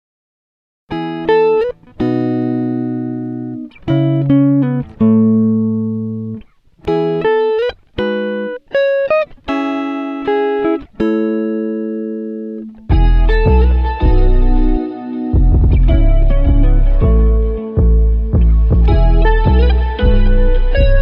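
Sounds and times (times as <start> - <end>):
guitar plucking chords and notes: 0.9 - 21.0.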